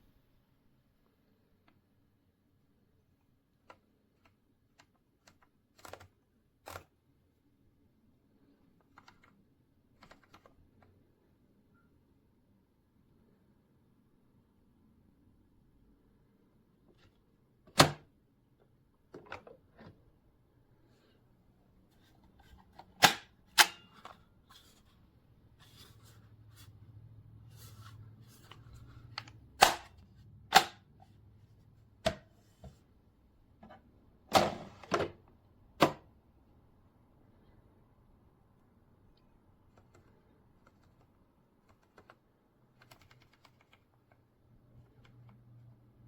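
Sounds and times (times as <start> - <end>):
faint low hum: 0.0 - 46.0.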